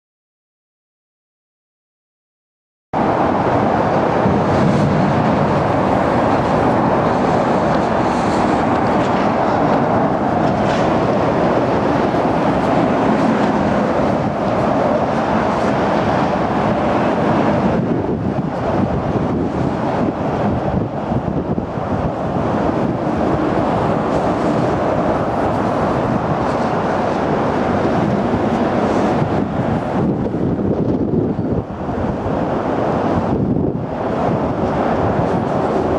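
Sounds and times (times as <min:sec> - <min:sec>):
expressway traffic noise: 0:03.0 - 0:35.9
wind buffeting microphone: 0:03.0 - 0:35.9.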